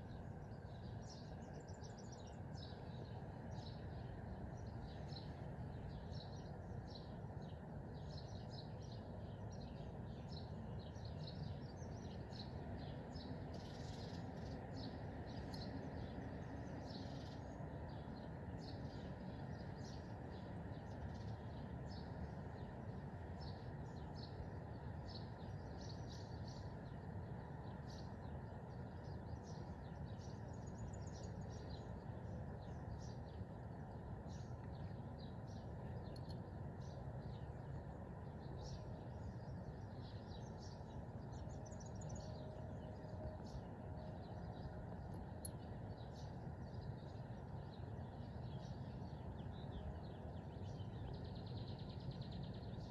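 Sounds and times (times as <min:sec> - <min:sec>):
low background noise: 0:00.0 - 0:52.9.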